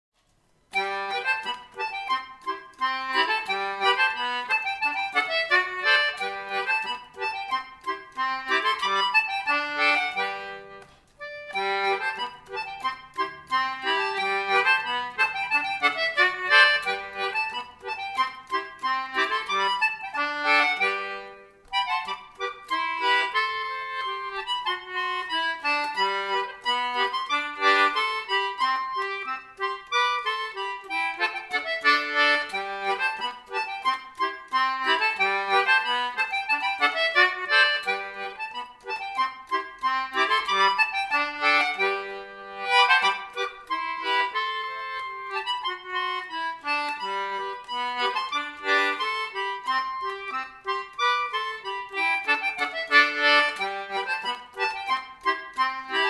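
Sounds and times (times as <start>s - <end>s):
concertina playing a dance tune: 0.7s - 56.0s.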